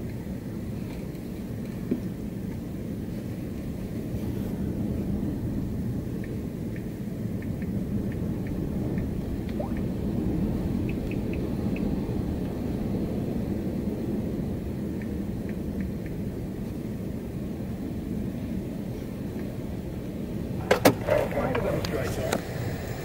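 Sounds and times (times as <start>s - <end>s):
wind and rain rumble: 0.0s - 23.0s.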